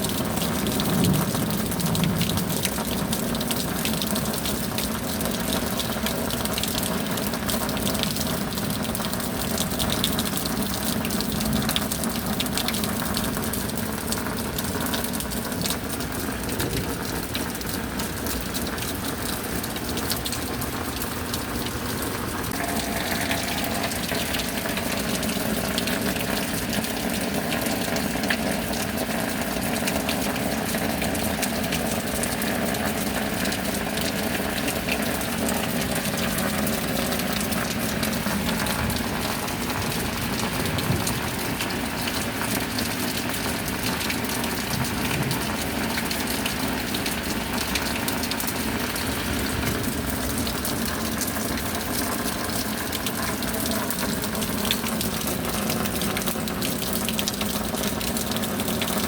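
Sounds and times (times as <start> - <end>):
steady rain pattering: 0.0 - 59.0
water pouring: 0.0 - 59.0
water running and gushing: 0.0 - 59.0.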